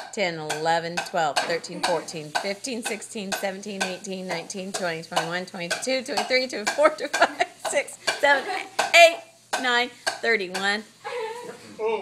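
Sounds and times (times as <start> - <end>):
person talking: 1.3 - 12.0.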